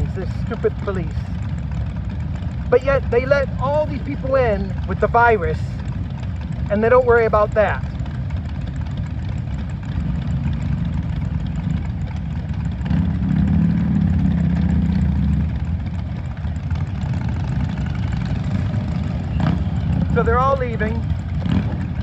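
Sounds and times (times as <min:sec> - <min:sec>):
motorcycle engines rumbling: 0:00.0 - 0:22.0.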